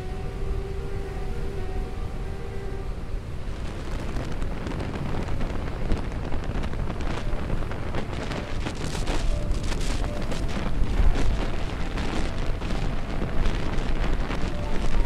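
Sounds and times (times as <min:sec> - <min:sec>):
heavy surf breaking on rocks: 0:00.0 - 0:15.0
wind buffeting microphone: 0:00.0 - 0:15.0.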